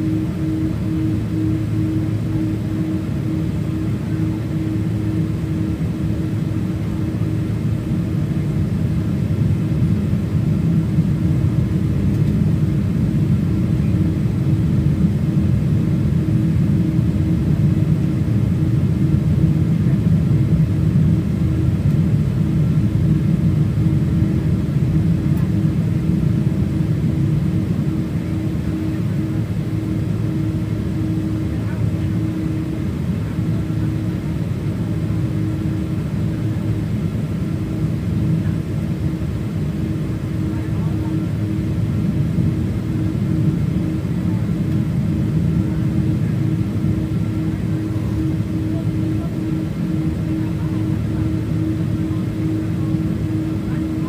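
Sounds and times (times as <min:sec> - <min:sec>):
airliner cabin rumble: 0:00.0 - 0:54.0
even hum: 0:00.0 - 0:54.0.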